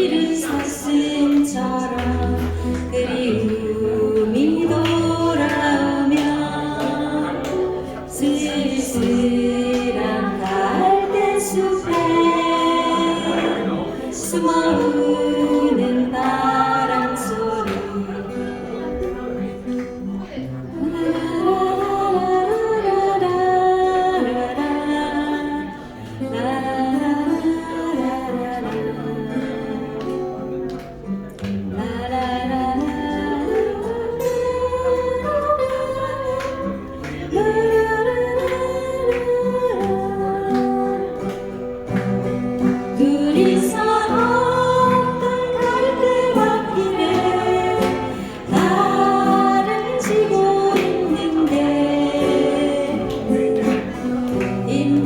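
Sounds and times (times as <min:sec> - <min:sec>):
female trio singing ballad: 0:00.0 - 0:19.6, 0:20.5 - 0:30.5, 0:31.6 - 0:55.0
acoustic guitar: 0:00.0 - 0:55.0.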